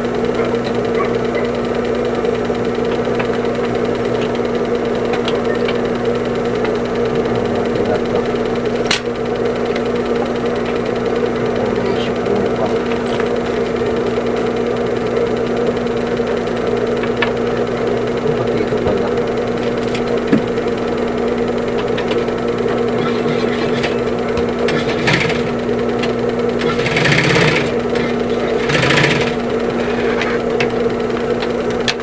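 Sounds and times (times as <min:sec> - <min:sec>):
sewing machine running: 0:00.0 - 0:32.0.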